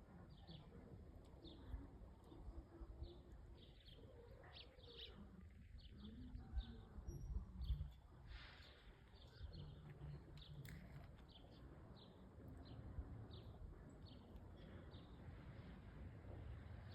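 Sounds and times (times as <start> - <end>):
bird chirping song: 0.0 - 16.9.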